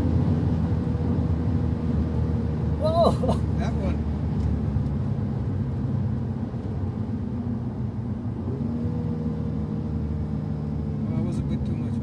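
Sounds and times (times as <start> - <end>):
car engine running: 0.0 - 12.0
road and tyre noise: 0.0 - 12.0.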